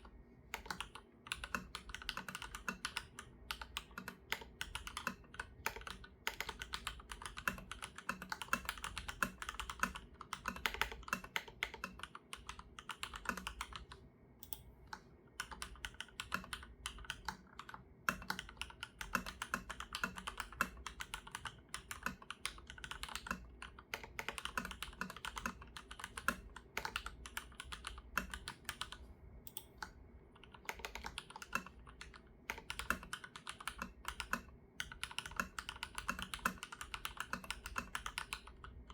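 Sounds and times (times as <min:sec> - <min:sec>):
mechanical keyboard typing: 0:00.0 - 0:14.6, 0:15.4 - 0:38.9.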